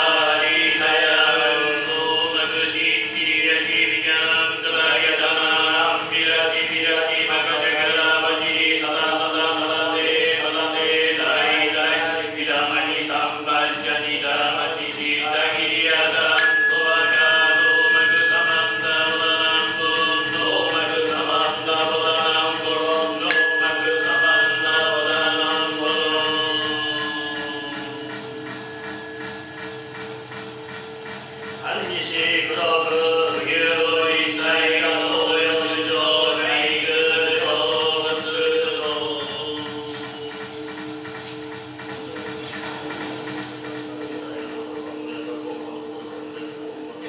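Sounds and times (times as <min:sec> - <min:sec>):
voices chanting: 0:00.0 - 0:29.3, 0:31.6 - 0:40.4
ritual bell ringing: 0:00.0 - 0:47.0
steady drone: 0:00.0 - 0:47.0.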